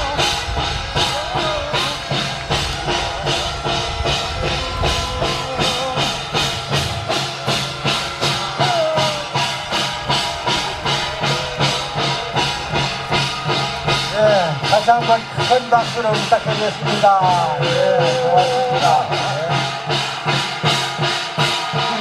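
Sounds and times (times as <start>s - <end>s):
wavering melody line: 0.0s - 19.6s
drums and cymbals beating: 0.0s - 22.0s.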